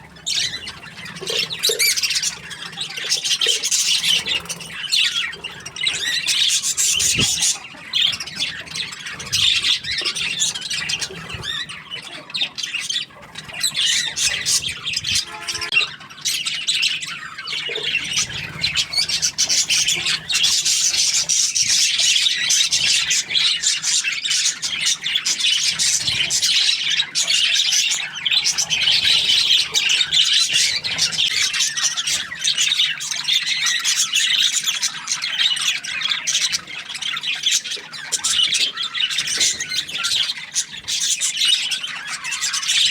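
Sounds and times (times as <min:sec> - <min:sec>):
budgerigars chirping: 0:00.0 - 0:42.9.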